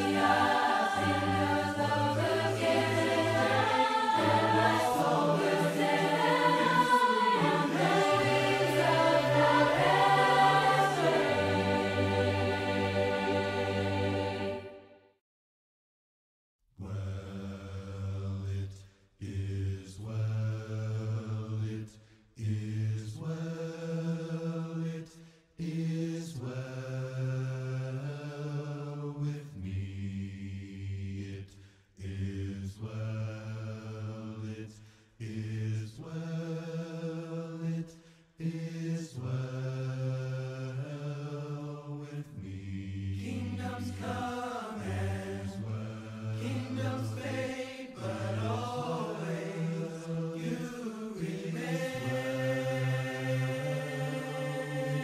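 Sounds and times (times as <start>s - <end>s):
low voices singing a hymn: 0.0s - 14.8s, 16.8s - 55.0s.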